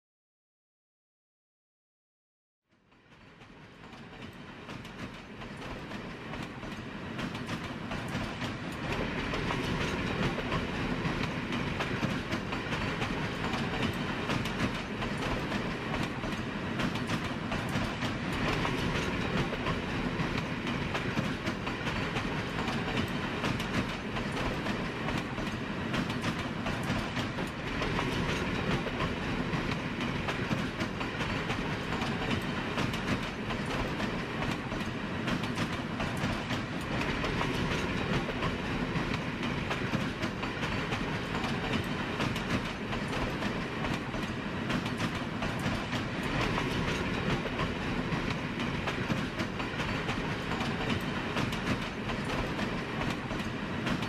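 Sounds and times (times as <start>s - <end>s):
train running along track: 2.7s - 54.0s
rapid track clicks: 3.8s - 54.0s.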